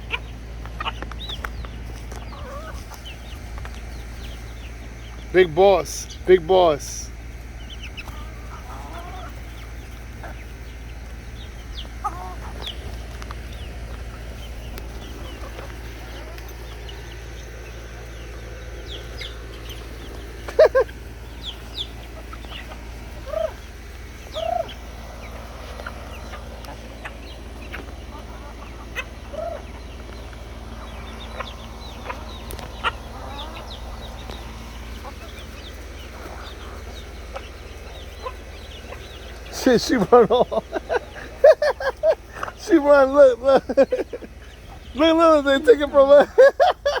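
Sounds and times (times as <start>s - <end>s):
chickens clucking: 0.0s - 47.0s
steady low hum: 0.0s - 47.0s.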